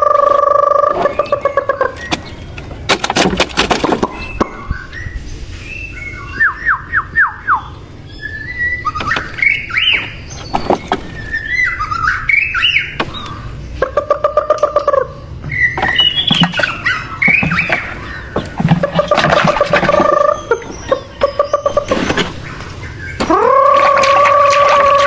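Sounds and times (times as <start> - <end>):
birds chirping and squawking: 0.0 - 25.0.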